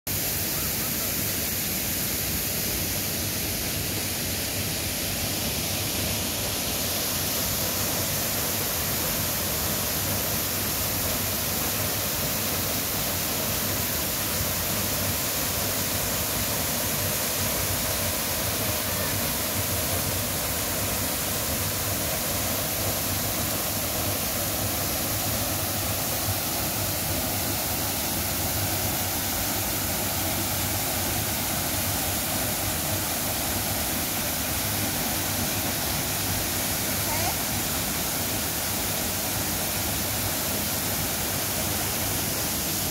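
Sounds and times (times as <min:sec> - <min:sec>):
waterfall rushing into pool: 0:00.1 - 0:42.9.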